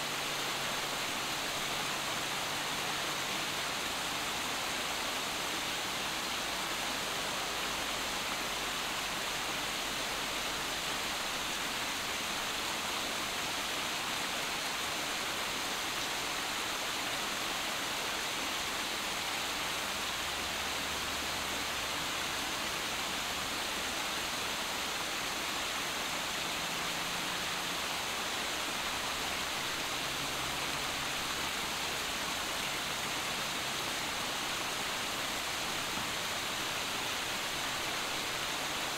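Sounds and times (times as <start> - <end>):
waterfall splashing over boulders: 0.0 - 38.9.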